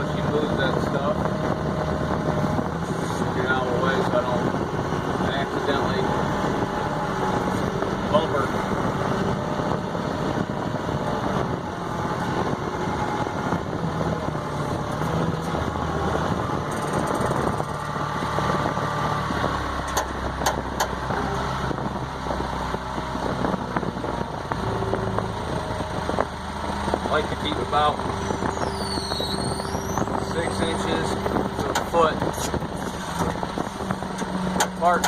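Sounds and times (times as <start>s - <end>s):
telehandler engine running: 0.0s - 35.0s.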